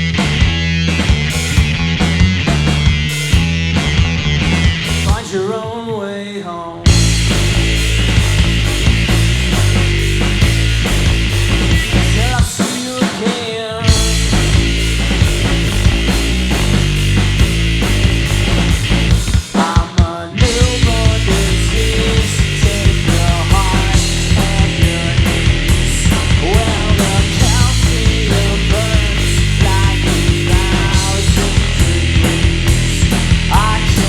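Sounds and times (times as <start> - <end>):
distorted punk rock band: 0.0 - 5.9, 6.8 - 34.0.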